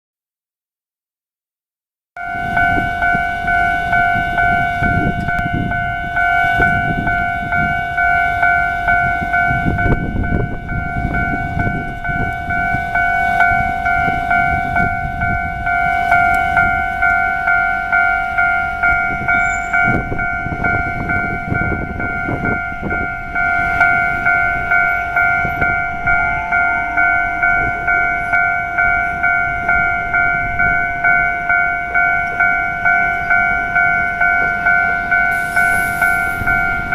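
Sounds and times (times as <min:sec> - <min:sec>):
level crossing bell ringing: 0:02.2 - 0:36.9
rail vehicles rumbling: 0:02.2 - 0:36.9.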